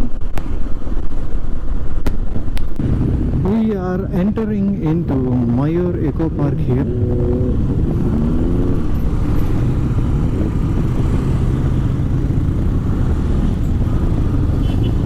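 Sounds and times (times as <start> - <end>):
road and wind noise: 0.0 - 15.0
motorcycle engine running: 2.8 - 15.0.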